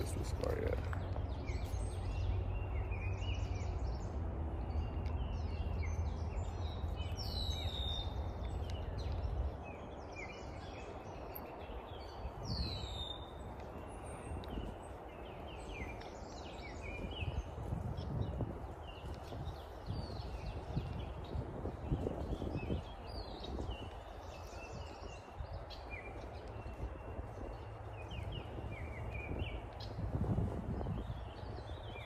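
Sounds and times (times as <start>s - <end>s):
songbirds chirping: 0.0s - 32.0s
steady low rumble: 0.0s - 32.0s.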